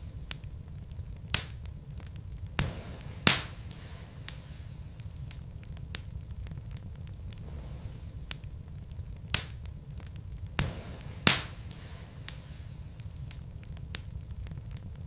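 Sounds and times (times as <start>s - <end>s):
low fire rumble: 0.0s - 15.0s
wood fire crackling: 0.0s - 15.0s
sharp pops from logs: 0.2s - 7.5s, 8.2s - 15.0s.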